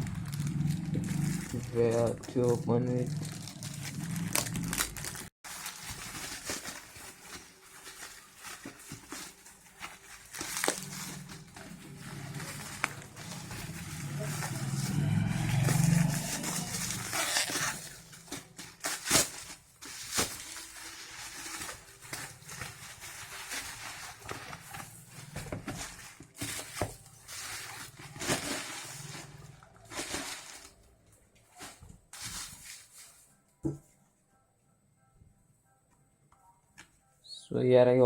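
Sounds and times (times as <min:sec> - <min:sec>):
packaging rustling and tearing: 0:00.0 - 0:33.3.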